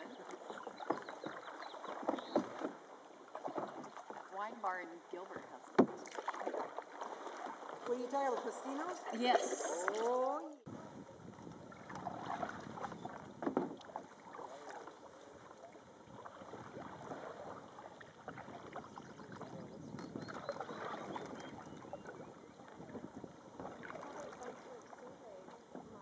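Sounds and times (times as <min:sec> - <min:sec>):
paddle dips: 0:00.0 - 0:26.0
water lapping around canoe: 0:00.0 - 0:26.0.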